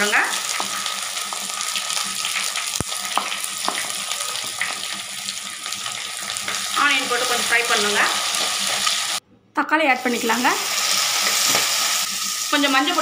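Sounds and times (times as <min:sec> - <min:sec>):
shallots sizzling in hot oil: 0:00.0 - 0:09.2, 0:10.0 - 0:13.0.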